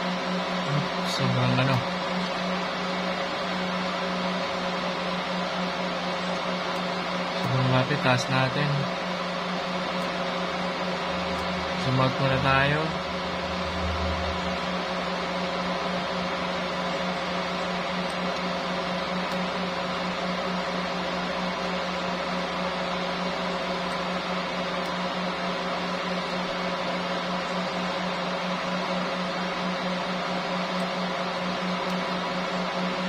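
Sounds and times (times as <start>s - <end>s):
fan humming: 0.0s - 33.0s.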